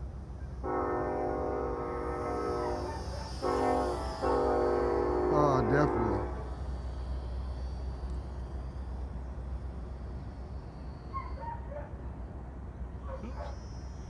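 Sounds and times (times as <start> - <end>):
faint high whine: 0.0 - 14.0
steady low rumble: 1.6 - 14.0.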